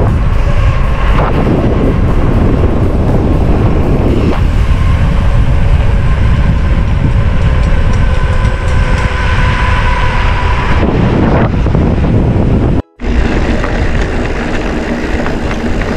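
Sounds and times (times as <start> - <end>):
bike tyres humming on asphalt: 0.0 - 15.9
wind buffeting microphone: 0.0 - 15.9.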